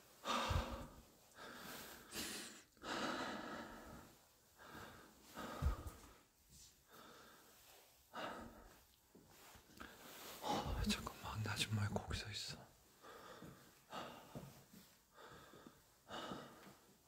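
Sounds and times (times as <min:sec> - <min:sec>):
man breathing heavily: 0:00.1 - 0:11.2, 0:12.8 - 0:17.0.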